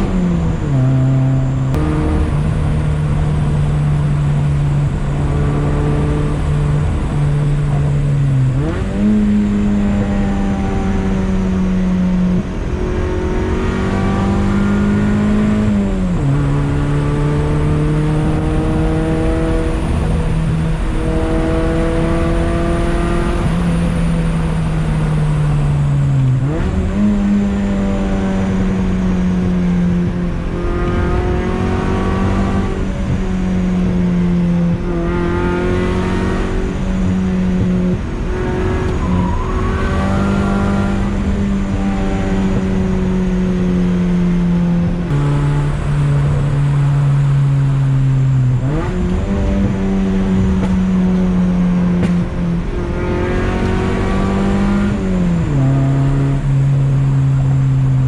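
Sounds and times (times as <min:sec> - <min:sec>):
car engine under way: 0:00.0 - 0:58.0.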